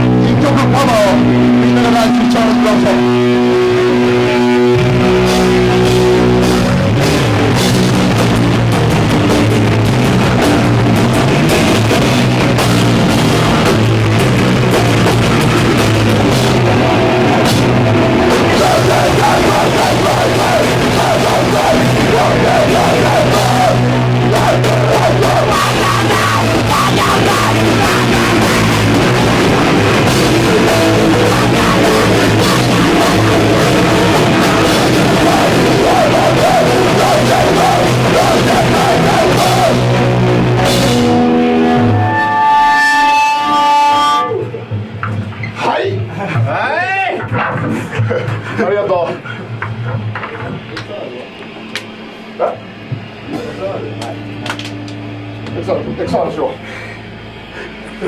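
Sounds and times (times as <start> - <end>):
hardcore band playing live: 0.0 - 46.5, 49.2 - 58.0.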